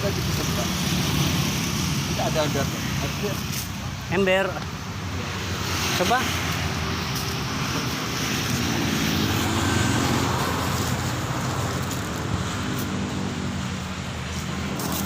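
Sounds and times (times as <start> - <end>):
loud vehicle engine: 0.0 - 15.0
road traffic passing: 0.0 - 15.0.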